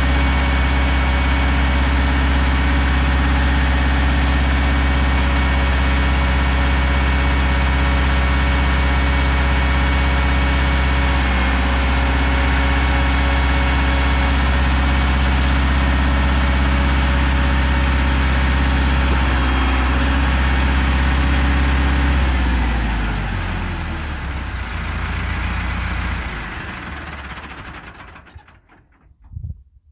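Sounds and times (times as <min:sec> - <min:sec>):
tractor engine idling: 0:00.0 - 0:29.3.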